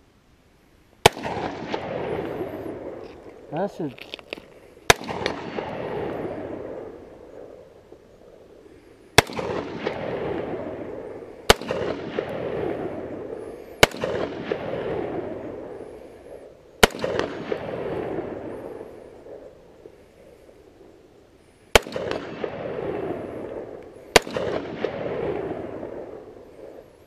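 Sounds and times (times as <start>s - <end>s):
rifle shots with rolling echo: 1.0s - 27.0s.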